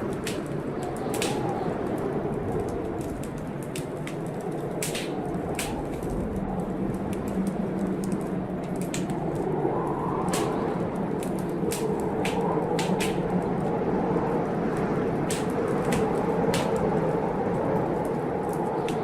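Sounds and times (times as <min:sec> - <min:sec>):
rushing storm: 0:00.0 - 0:19.0
wood fire crackling and popping: 0:00.0 - 0:19.0.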